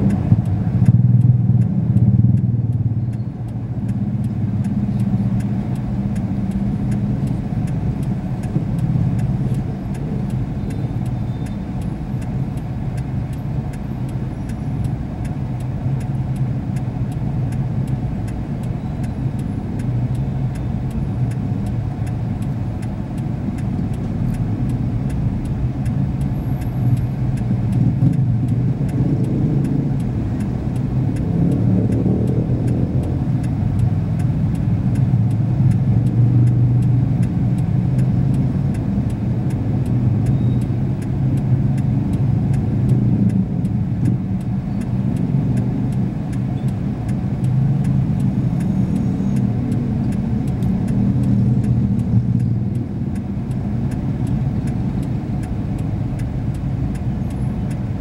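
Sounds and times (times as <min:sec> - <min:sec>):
faint regular ticking: 0:00.0 - 0:58.0
traffic engines humming: 0:00.0 - 0:58.0.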